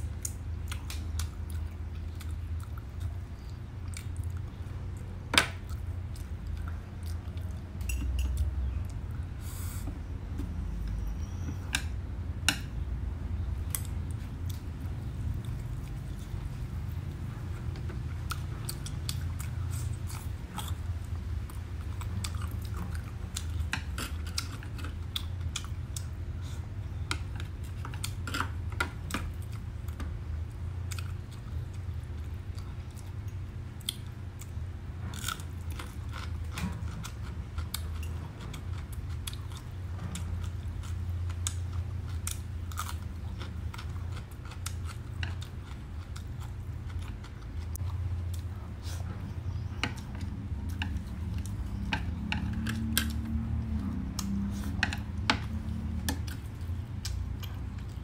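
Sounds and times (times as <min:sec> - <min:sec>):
crunchy chewing: 0:00.0 - 0:12.0, 0:13.4 - 0:58.0
steady low hum: 0:00.0 - 0:58.0.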